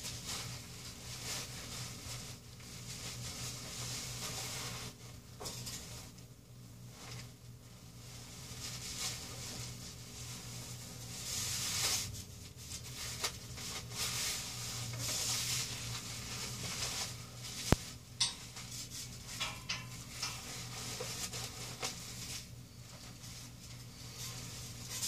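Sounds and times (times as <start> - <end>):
clothing rustling: 0.0 - 6.2, 6.8 - 25.0
low steady hum: 0.0 - 25.0.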